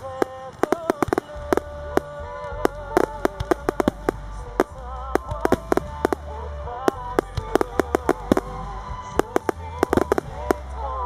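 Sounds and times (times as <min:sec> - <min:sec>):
fireworks bangs: 0:00.0 - 0:11.0
music with deep bass: 0:00.0 - 0:11.0.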